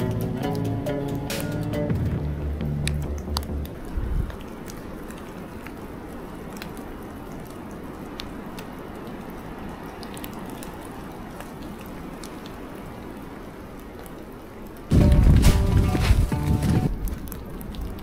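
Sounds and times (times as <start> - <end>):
snow falling on dry leaves: 2.8 - 18.0.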